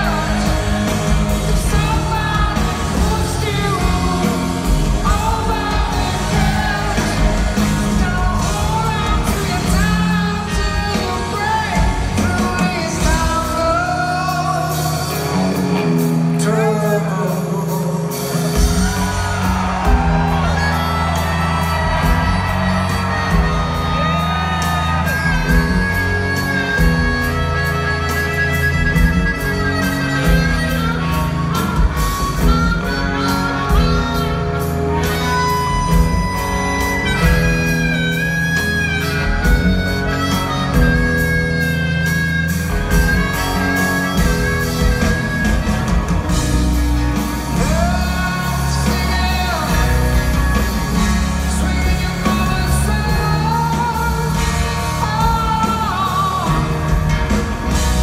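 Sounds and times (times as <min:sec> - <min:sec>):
harmonica solo: 0:00.0 - 0:58.0
live rock band: 0:00.0 - 0:58.0.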